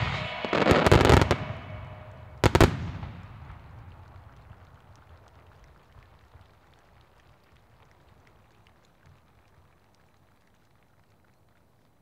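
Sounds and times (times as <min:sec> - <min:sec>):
faint low fireworks rumble: 0:00.0 - 0:12.0.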